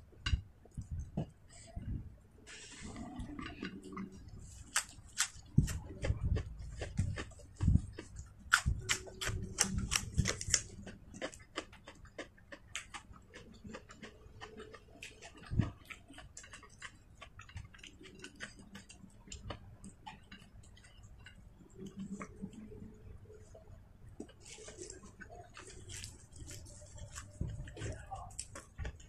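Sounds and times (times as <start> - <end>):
crisp chewing: 2.5 - 29.0.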